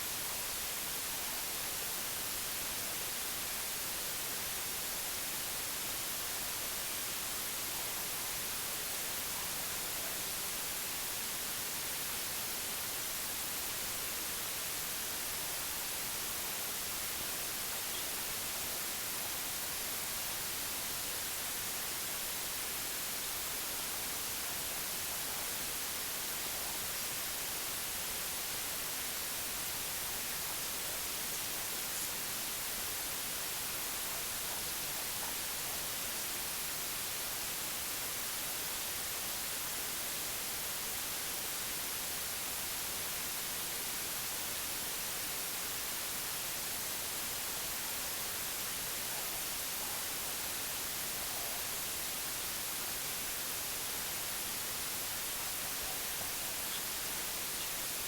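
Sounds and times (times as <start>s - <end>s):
steady white noise hiss: 0.0s - 58.0s.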